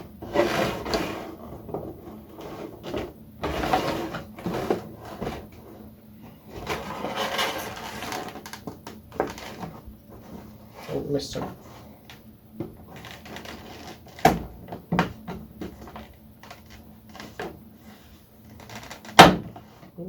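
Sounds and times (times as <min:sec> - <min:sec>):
packaging rustling and scraping: 0:00.0 - 0:20.0.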